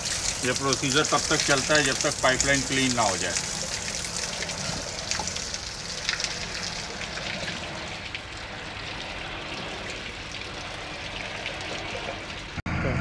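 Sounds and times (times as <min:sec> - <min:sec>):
water pouring and splashing on ground: 0:00.0 - 0:12.6.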